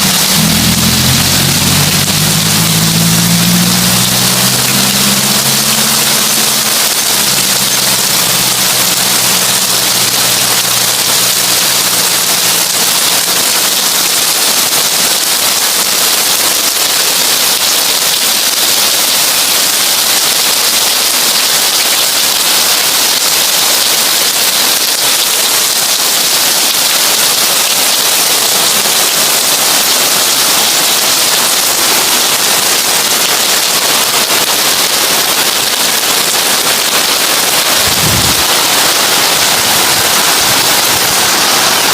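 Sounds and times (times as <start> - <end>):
heavy rain on a tin roof: 0.0 - 41.9.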